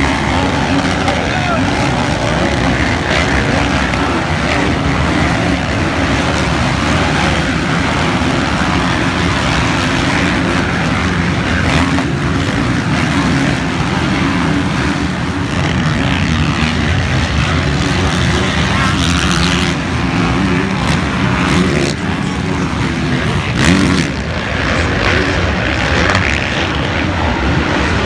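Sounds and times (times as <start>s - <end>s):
motocross bike engines racing: 0.0s - 28.0s.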